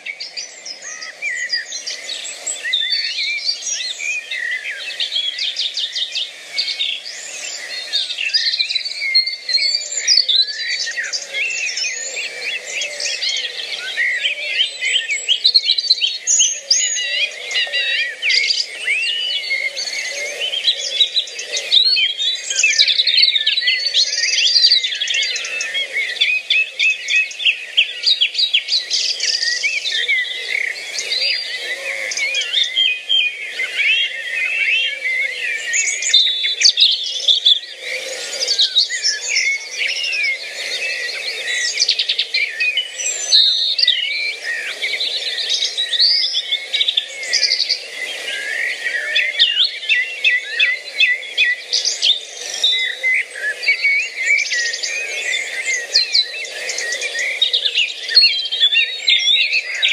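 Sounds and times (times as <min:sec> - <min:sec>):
birds singing and chirping: 0:00.0 - 0:59.9.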